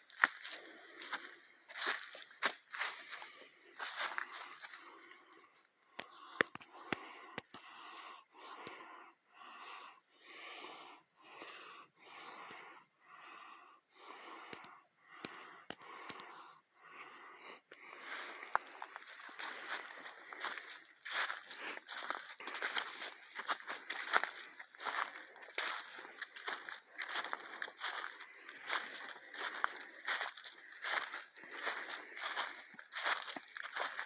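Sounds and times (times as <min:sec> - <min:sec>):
heavy wheezy breathing: 0:06.1 - 0:33.9.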